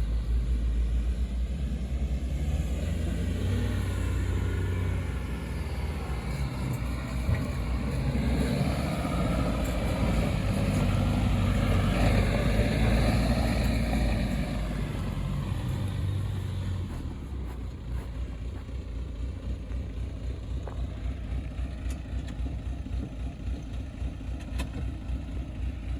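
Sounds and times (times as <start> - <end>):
off-road truck engine running: 0.0 - 25.9.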